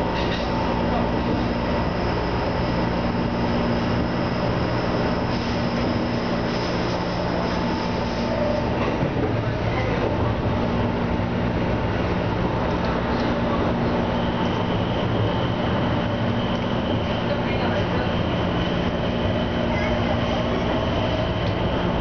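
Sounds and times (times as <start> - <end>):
train motor hum: 0.0 - 22.0
train wheels rumbling on rail: 0.0 - 22.0.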